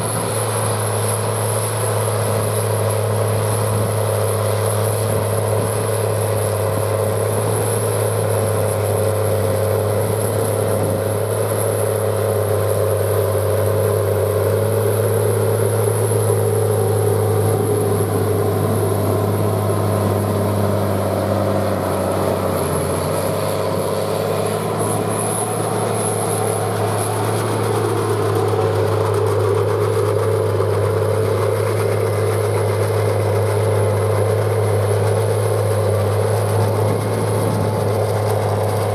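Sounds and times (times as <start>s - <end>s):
tractor diesel engine working: 0.0s - 38.9s.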